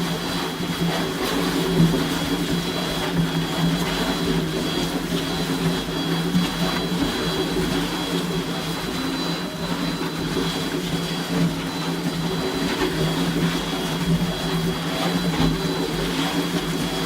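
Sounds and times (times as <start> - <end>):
concrete mixer hum: 0.0 - 17.0.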